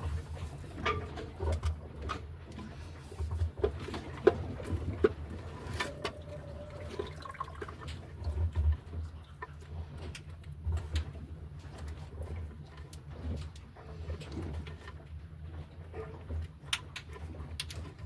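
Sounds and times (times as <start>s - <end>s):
water lapping against a hull: 0.0s - 18.0s.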